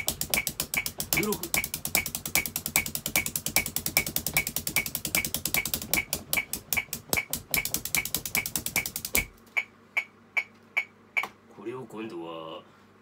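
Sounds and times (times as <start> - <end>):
metronome clicking: 0.0 - 11.3
sticks drumming on practice pad: 0.0 - 11.4.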